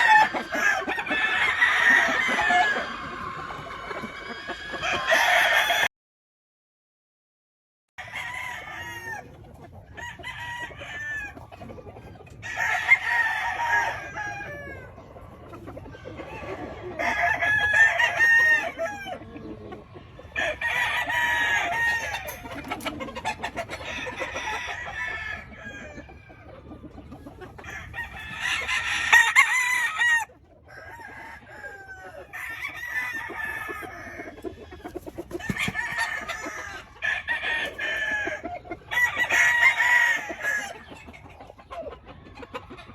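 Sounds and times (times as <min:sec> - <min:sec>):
chickens clucking: 0:00.0 - 0:05.8, 0:08.0 - 0:42.9
roosters crowing: 0:00.0 - 0:05.9, 0:08.0 - 0:42.9.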